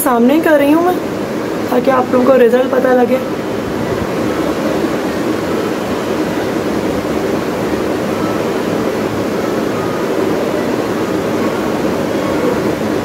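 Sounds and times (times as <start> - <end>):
cooling unit blowing air: 0.0 - 13.0.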